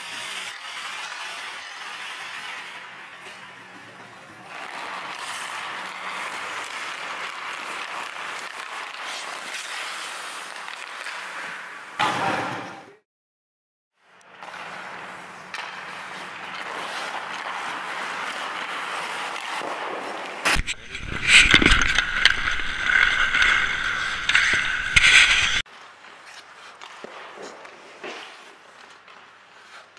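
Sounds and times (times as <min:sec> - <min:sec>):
skates scraping on ice: 0:00.0 - 0:12.7, 0:14.0 - 0:29.9.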